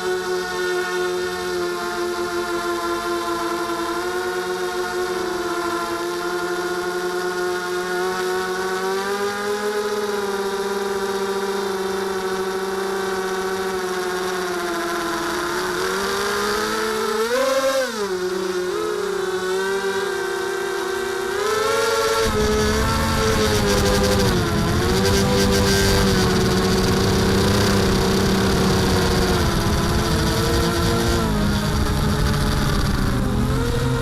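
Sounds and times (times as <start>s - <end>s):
quadcopter motors whining: 0.0s - 34.0s.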